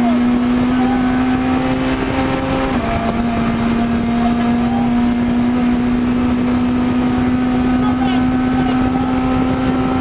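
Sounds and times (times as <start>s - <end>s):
car engine at high revs: 0.0s - 10.0s
road and wind noise: 0.0s - 10.0s.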